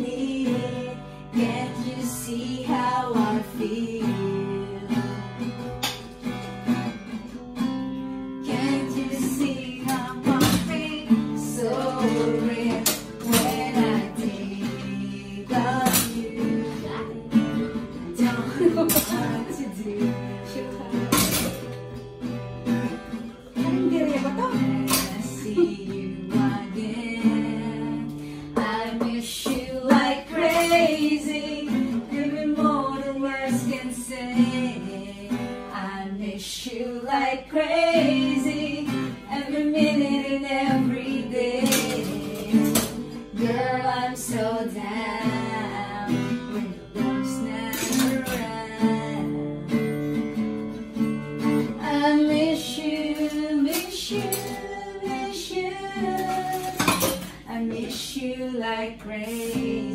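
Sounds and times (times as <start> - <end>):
woman singing: 0.0 - 5.7, 8.2 - 50.0, 51.4 - 59.9
acoustic guitar strumming: 0.0 - 59.9.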